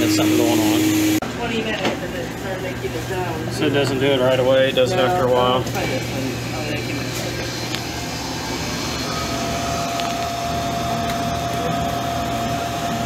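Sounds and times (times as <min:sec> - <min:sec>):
refrigeration equipment hum: 0:00.0 - 0:13.0
steady whine: 0:00.0 - 0:13.0.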